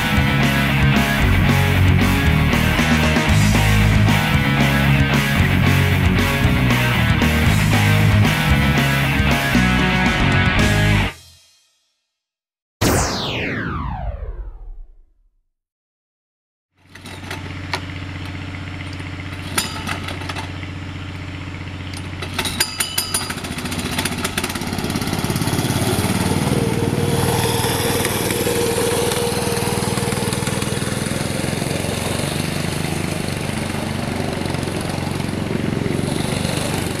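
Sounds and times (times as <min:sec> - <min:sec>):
go-kart engine idling and revving: 0:00.0 - 0:10.8, 0:16.8 - 0:37.0.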